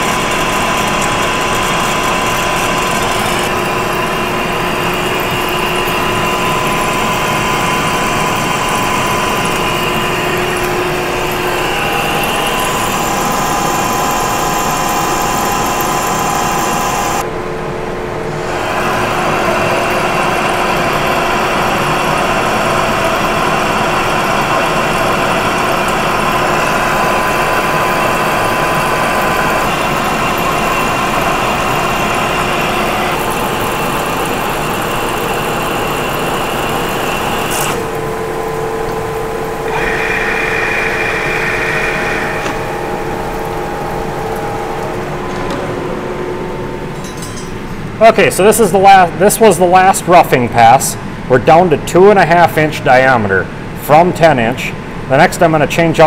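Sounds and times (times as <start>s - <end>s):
metal lathe cutting steel: 0.0s - 17.2s, 18.3s - 48.0s.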